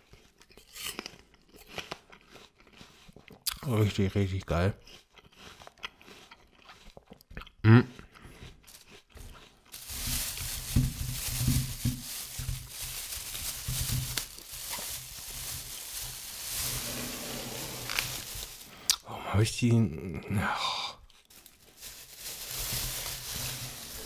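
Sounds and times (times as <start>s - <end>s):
person chewing crisp apple: 0.0s - 17.0s, 17.6s - 19.2s, 21.0s - 24.0s.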